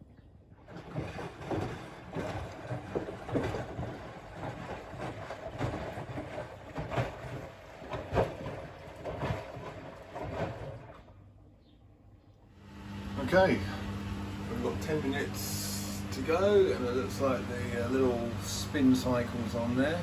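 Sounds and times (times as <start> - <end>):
washing machine water sloshing: 0.4 - 11.3, 12.6 - 20.0.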